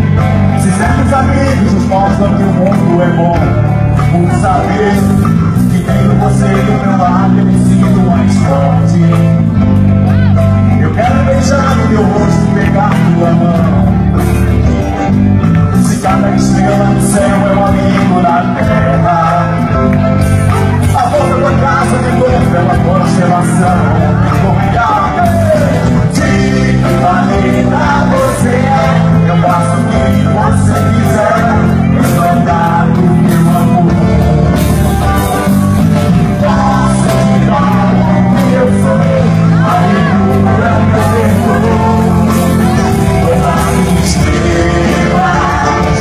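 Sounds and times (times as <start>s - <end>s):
song with band accompaniment: 0.0s - 46.0s.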